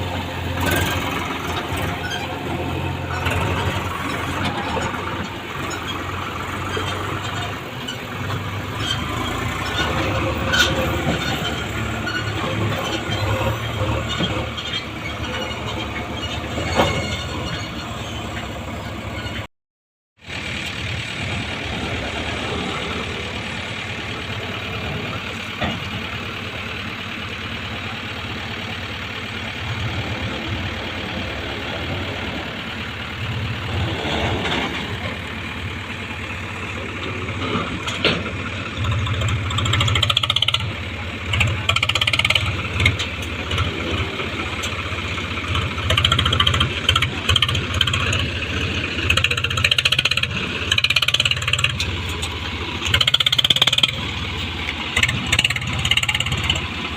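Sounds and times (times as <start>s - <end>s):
diesel engine revving: 0.0s - 19.5s, 20.2s - 56.9s.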